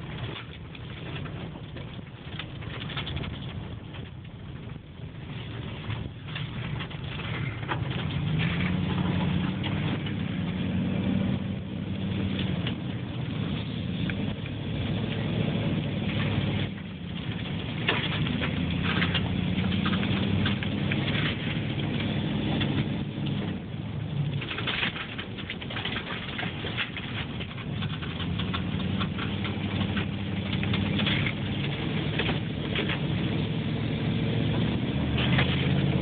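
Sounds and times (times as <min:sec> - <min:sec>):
car engine and tyres hum: 0:00.0 - 0:36.0
crackles: 0:00.0 - 0:36.0.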